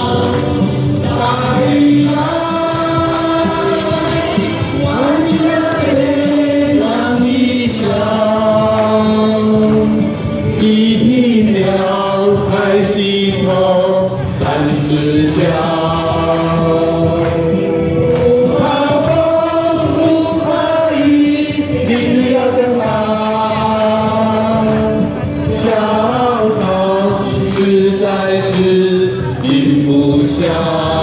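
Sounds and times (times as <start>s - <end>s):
mixed choir singing folk song: 0.0s - 31.0s.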